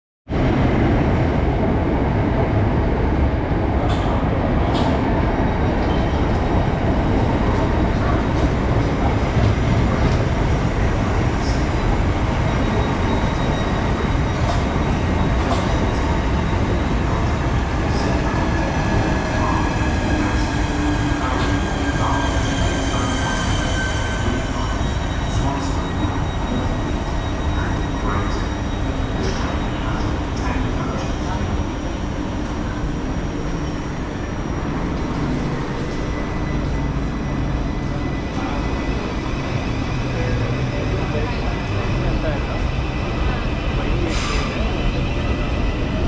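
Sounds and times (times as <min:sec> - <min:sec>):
train wheels rumbling on rail: 0:00.4 - 0:46.0.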